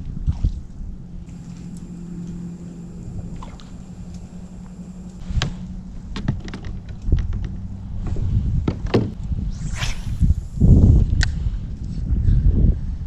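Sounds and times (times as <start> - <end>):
steady low hum: 0.0 - 8.6, 9.2 - 11.8.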